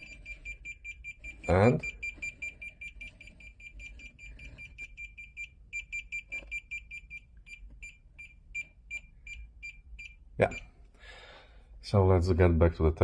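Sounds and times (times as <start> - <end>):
multimeter short high beeps: 0.0 - 10.8.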